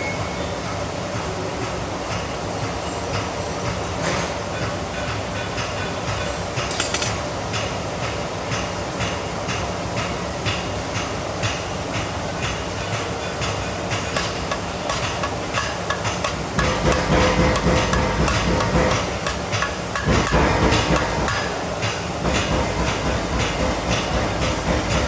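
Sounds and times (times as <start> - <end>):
hammer striking hot metal: 4.6 - 25.0.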